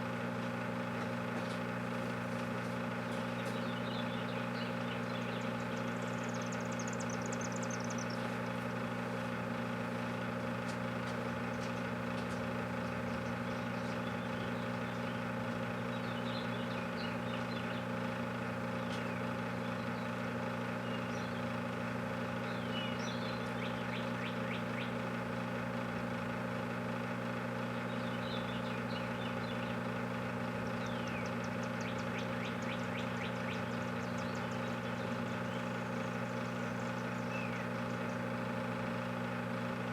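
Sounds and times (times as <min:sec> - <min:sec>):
microwave oven humming: 0:00.0 - 0:39.9
birds chirping: 0:00.1 - 0:25.6, 0:27.4 - 0:39.2.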